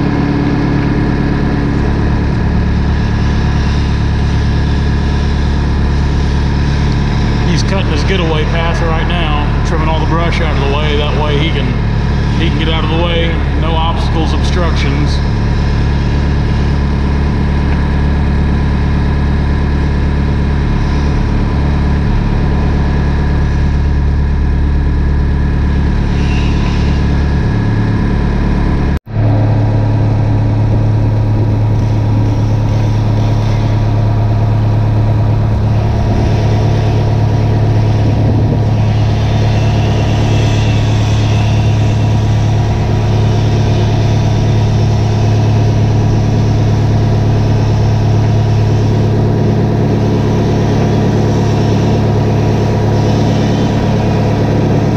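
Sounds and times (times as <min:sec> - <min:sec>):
diesel engine running: 0:00.0 - 0:54.9
low steady hum: 0:00.0 - 0:54.9.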